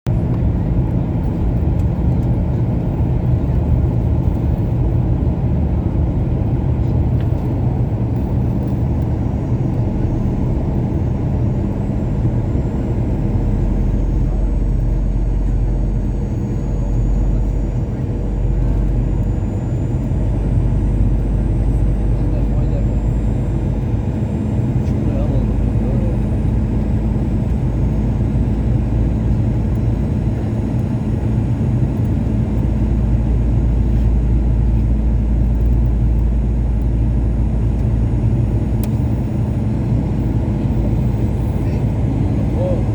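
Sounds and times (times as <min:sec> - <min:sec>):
low engine rumble: 0:00.1 - 0:42.9.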